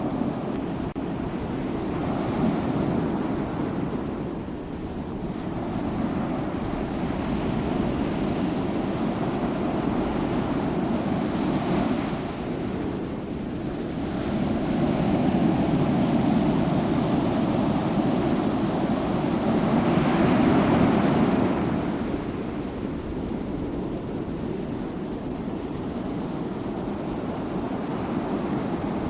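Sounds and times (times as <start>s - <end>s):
sea waves surf: 0.0s - 29.0s.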